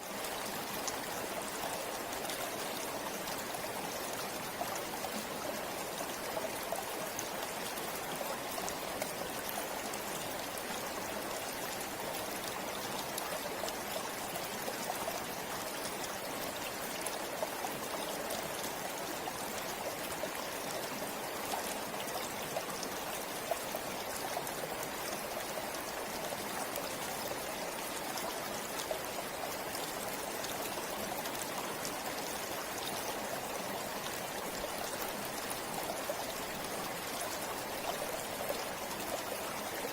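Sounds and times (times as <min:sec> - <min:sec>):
river flowing over rocks: 0:00.1 - 0:39.9.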